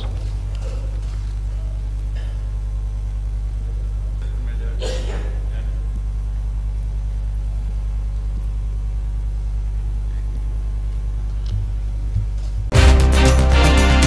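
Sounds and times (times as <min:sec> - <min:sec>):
low electrical hum: 0:00.0 - 0:12.7.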